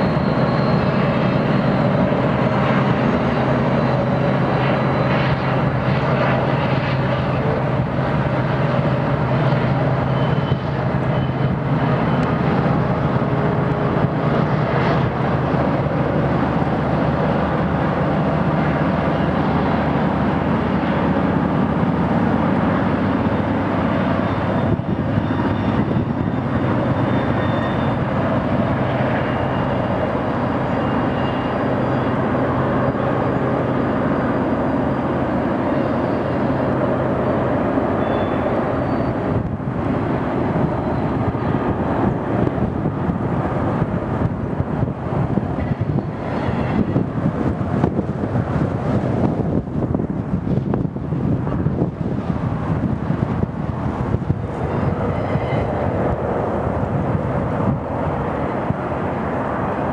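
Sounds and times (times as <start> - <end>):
diesel locomotive engines droning: 0.0 - 59.9
train wheels rumbling on rails: 0.0 - 59.9.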